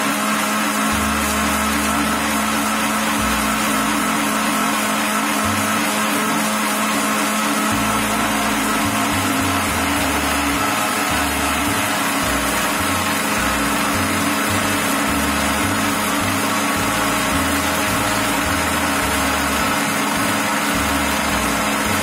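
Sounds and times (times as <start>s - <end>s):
mixer grinder blending: 0.0s - 22.0s.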